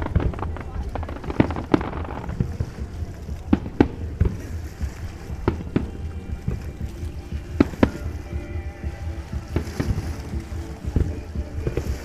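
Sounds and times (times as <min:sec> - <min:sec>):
firework bangs: 0:00.0 - 0:12.0
low rumble: 0:00.0 - 0:12.0.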